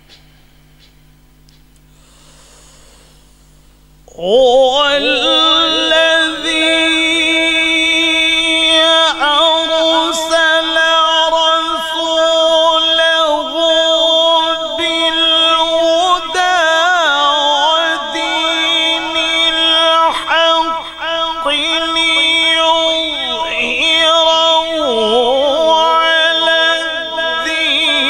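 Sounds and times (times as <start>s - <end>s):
man reciting through a microphone: 4.1s - 28.0s.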